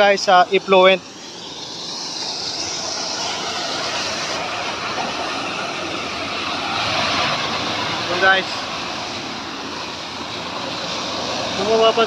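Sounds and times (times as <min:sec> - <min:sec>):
wastewater rushing into tank: 0:01.3 - 0:12.0.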